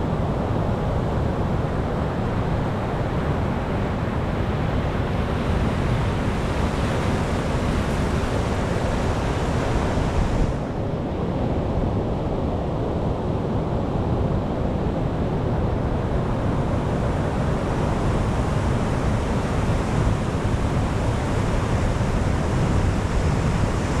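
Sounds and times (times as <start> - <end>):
ocean surf washing ashore: 0.0 - 12.4, 13.0 - 24.0.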